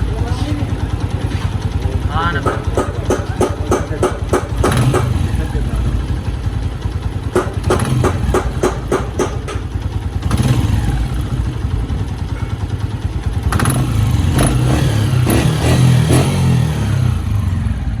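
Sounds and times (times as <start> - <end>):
engine knocking: 0.0 - 16.3
motorcycle engine running: 0.0 - 18.0.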